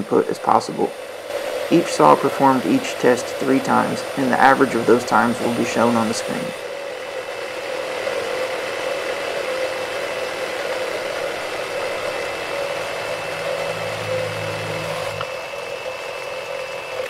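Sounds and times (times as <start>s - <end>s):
low hum: 0.0s - 16.9s
reciprocating saws cutting timber: 0.0s - 17.0s.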